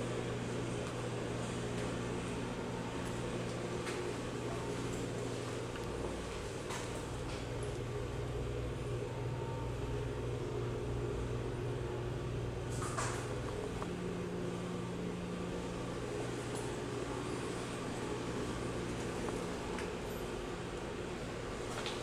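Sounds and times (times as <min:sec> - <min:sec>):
kitchen machinery humming: 0:00.0 - 0:22.0.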